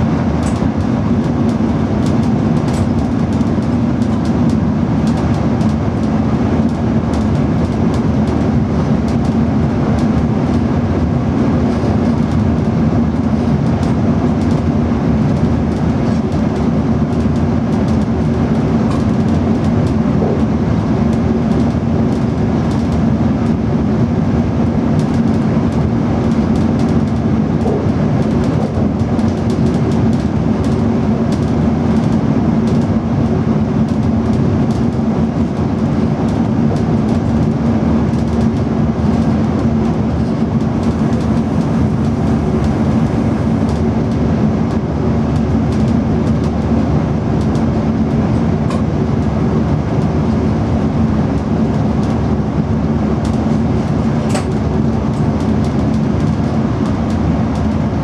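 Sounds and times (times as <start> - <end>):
steady electric hum: 0.0 - 58.0
train rolling noise: 0.0 - 58.0.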